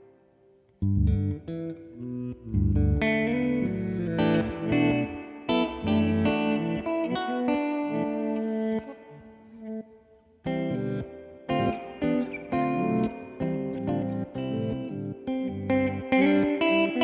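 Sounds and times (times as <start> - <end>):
electric guitar with reversed repeats: 0.8 - 8.4, 10.5 - 17.0.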